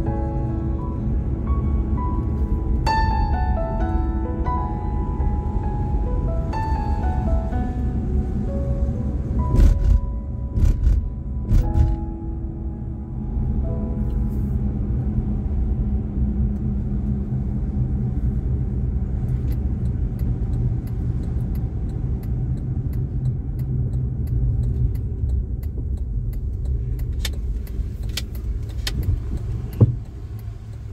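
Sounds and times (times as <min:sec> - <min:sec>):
car engine and road rumble: 0:00.0 - 0:30.9.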